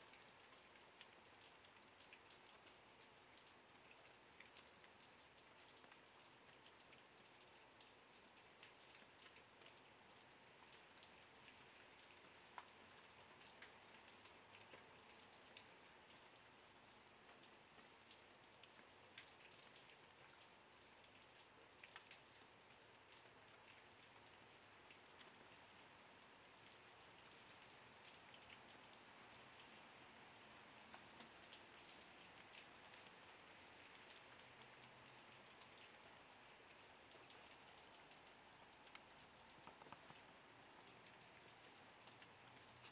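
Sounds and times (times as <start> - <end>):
faint rain pattering: 0.0 - 42.9.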